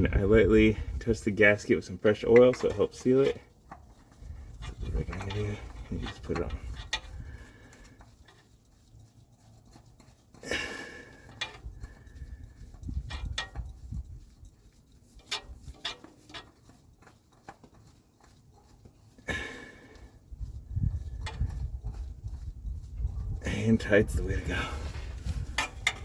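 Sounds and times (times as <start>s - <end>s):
oil filter clicks and scrapes: 0.0s - 26.0s
rustling scrapes: 0.0s - 26.0s.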